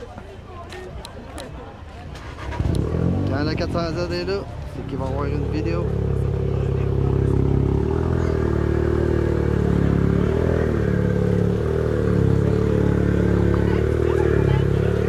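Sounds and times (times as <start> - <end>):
car engine running at low revs: 2.2 - 15.0.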